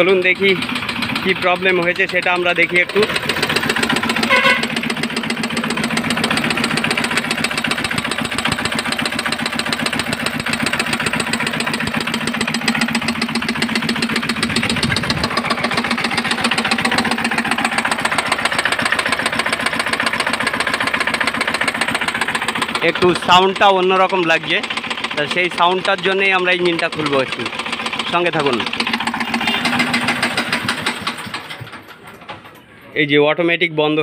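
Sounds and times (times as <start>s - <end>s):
abnormal engine knock: 0.0s - 32.7s
small diesel engine running: 0.0s - 32.8s.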